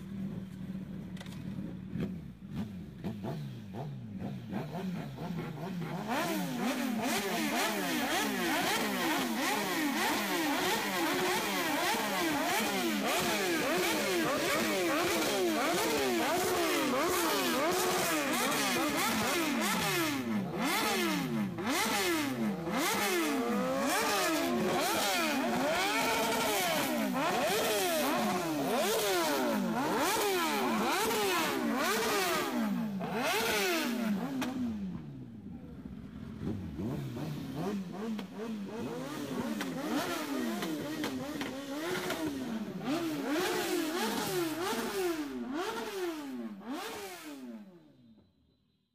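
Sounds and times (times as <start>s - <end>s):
motorcycle engines revving: 0.0s - 48.0s.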